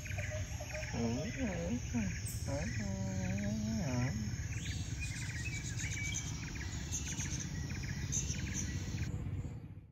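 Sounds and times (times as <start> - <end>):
insect and bird chirps: 0.0 - 9.4
low rumble: 1.4 - 9.9.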